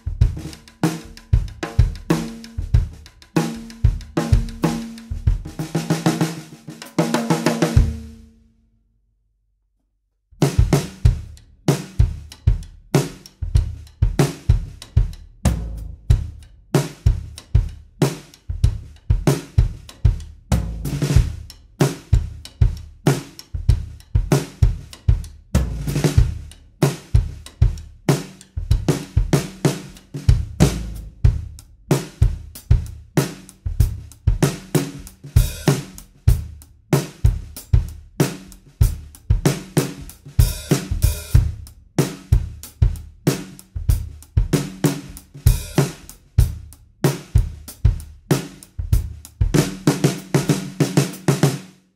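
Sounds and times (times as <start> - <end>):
drum kit groove: 0.0 - 8.3, 10.4 - 51.9.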